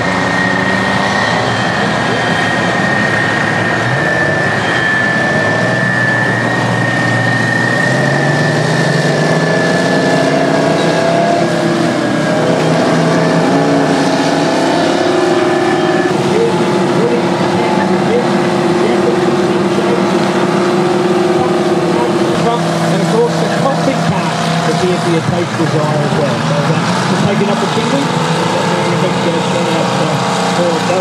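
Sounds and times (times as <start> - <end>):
bulldozer diesel engines working: 0.0 - 31.0
steady high whine: 0.0 - 31.0.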